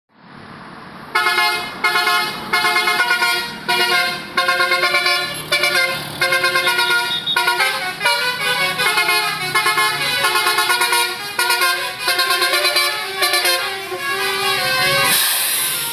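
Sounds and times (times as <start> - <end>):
multi-tone bus horn tune: 1.1 - 15.9.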